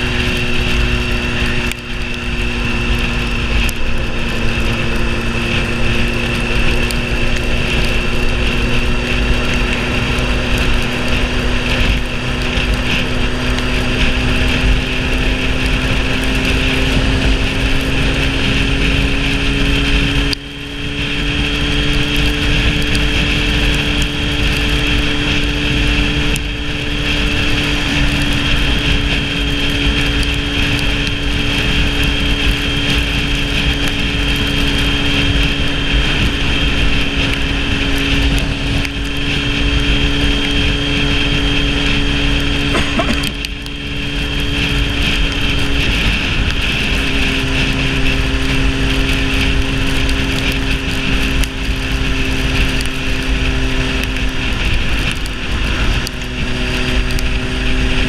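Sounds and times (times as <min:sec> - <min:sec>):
motorcycle engine cruising: 0:00.0 - 0:58.0
wet road noise: 0:00.0 - 0:58.0
wind rush: 0:00.0 - 0:58.0.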